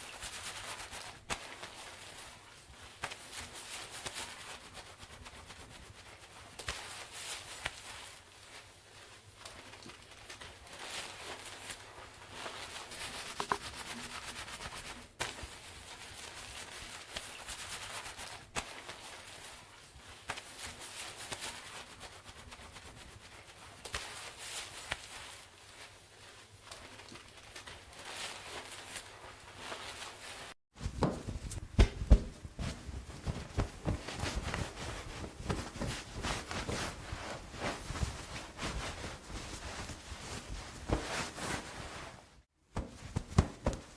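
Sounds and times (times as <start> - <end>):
hands rustling wet hair: 0.0 - 43.9.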